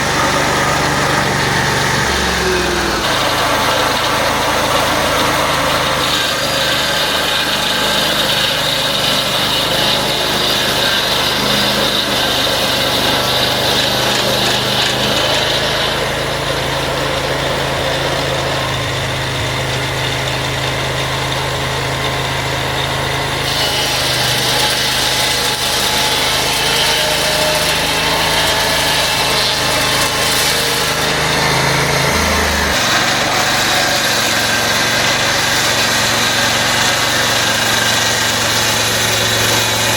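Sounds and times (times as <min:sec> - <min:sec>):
petrol engine running: 0:00.0 - 0:39.9.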